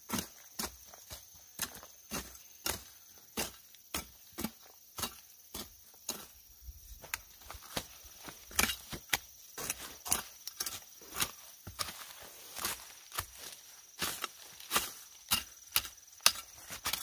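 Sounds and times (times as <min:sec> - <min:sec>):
hoe chopping into soil: 0:01.6 - 0:06.3, 0:07.7 - 0:17.0.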